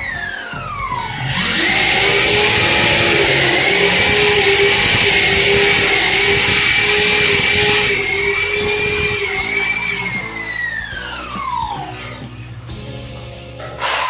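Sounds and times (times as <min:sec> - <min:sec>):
motor hissing and humming: 0:00.0 - 0:12.8.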